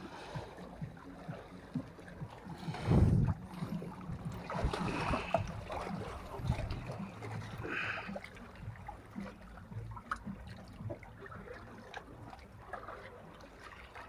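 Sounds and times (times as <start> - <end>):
seawater sloshing among blocks: 0.0 - 14.0
water splash: 0.0 - 14.0.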